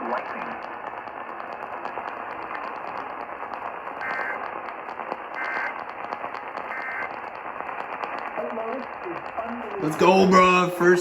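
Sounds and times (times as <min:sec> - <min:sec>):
radio hiss and static: 0:00.0 - 0:11.0.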